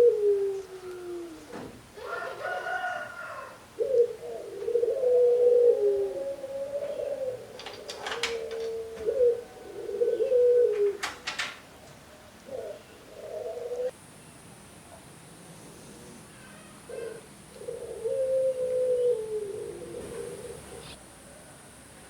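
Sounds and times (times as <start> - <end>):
doves cooing: 0.0 - 14.0, 16.4 - 21.0.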